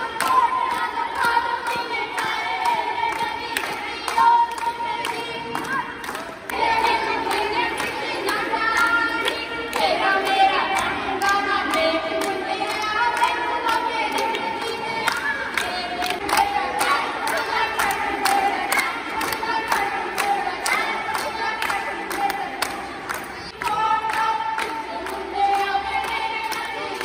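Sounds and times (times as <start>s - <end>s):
rhythmic hand clapping: 0.0s - 27.0s
women singing: 0.0s - 27.0s.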